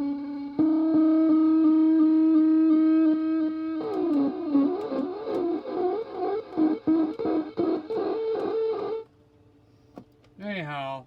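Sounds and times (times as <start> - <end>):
microphone feedback howling: 0.0 - 9.1.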